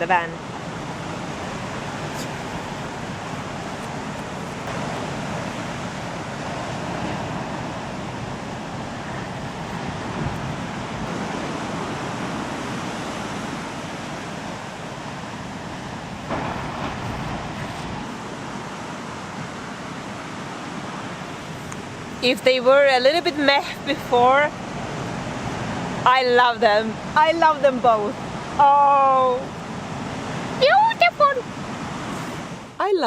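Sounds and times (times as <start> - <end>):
ocean surf rushing: 0.0 - 33.0.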